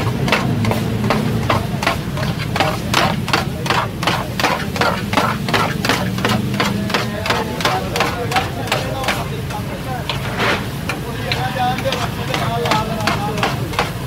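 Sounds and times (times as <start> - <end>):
metal spatula clattering on griddle: 0.0 - 14.0.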